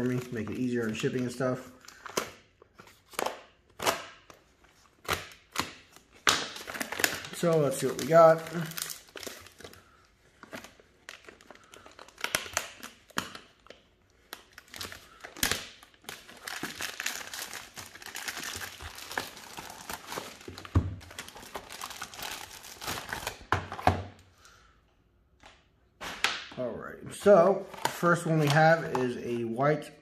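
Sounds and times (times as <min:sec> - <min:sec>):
plastic mailer crinkling and tearing: 0:00.0 - 0:24.0, 0:27.1 - 0:29.6.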